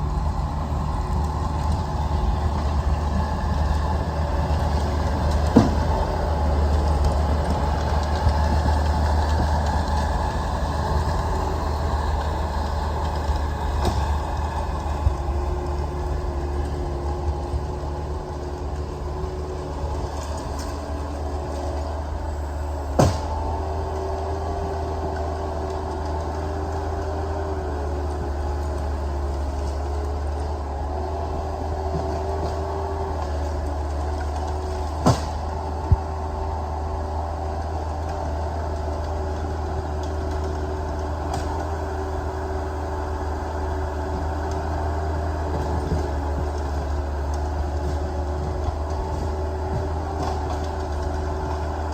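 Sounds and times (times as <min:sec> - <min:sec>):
heavy machinery engine droning: 0:00.0 - 0:51.9.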